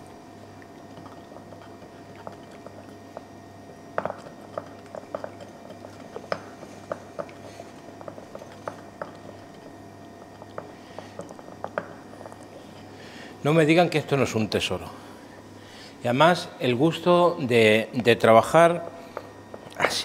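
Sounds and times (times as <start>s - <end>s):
pot simmering and bubbling: 0.0s - 14.2s, 18.1s - 20.0s
steady low hum: 0.0s - 20.0s.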